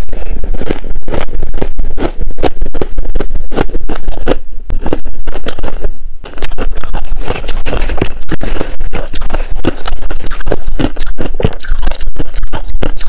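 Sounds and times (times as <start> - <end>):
chewing crunchy shaved ice: 0.0 - 13.0.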